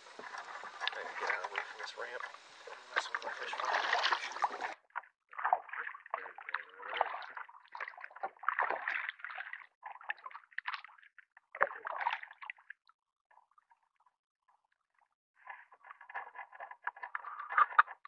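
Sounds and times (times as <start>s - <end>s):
paddle splashing in water: 0.0s - 14.0s, 15.4s - 18.0s.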